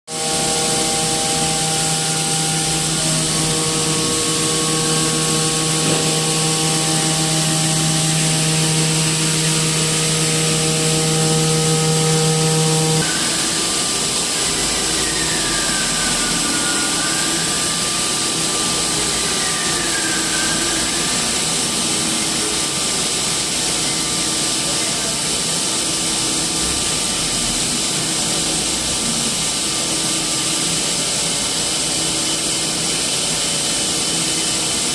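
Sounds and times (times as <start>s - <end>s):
hot-air welding gun hissing: 0.1s - 34.9s.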